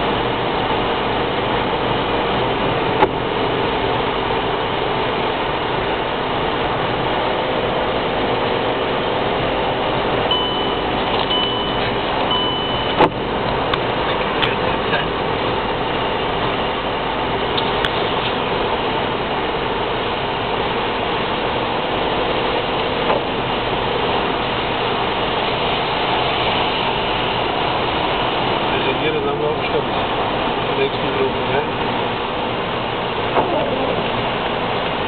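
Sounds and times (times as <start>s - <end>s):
car engine drone: 0.0s - 35.0s
road noise: 0.0s - 35.0s.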